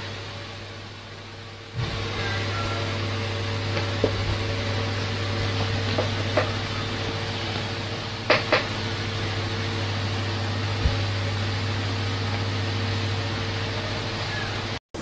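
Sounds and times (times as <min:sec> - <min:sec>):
low mechanical hum with hiss: 0:00.0 - 0:15.0.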